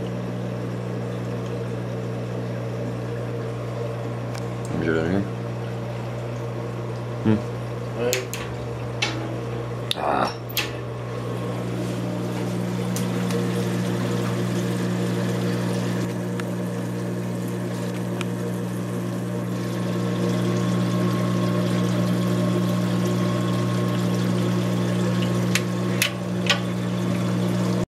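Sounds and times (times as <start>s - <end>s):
electric pump hum: 0.0s - 27.9s.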